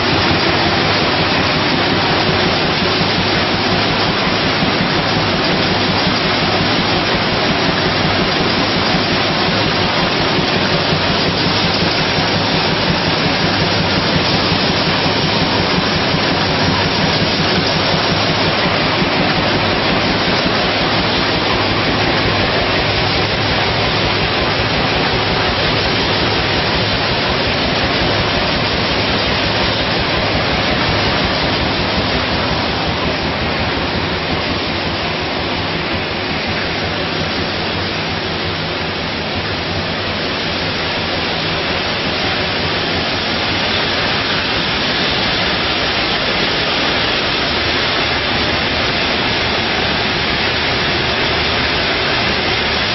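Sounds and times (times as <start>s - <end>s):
bottling machinery running: 0.0s - 52.9s.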